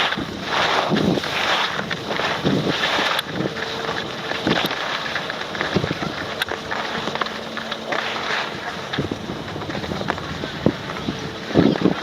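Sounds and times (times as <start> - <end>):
skis scraping over icy snow: 0.0 - 12.0
wind on microphone: 0.0 - 12.0.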